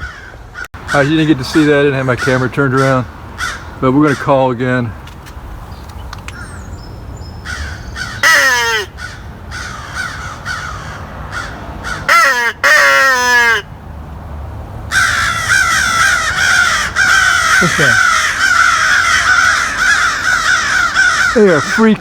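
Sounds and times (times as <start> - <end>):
crow call caws: 0.0 - 4.5, 7.4 - 13.7, 14.9 - 22.0
crows cawing: 0.0 - 4.5, 6.3 - 6.7, 7.4 - 13.7, 14.9 - 22.0.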